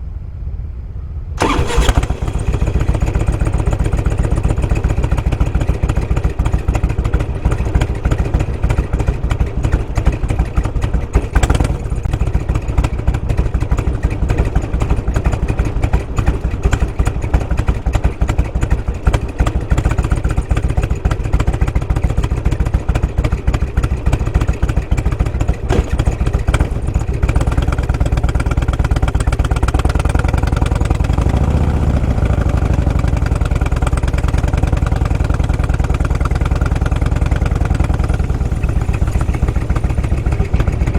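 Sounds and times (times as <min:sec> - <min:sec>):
motorcycle engine running: 0:01.4 - 0:40.9.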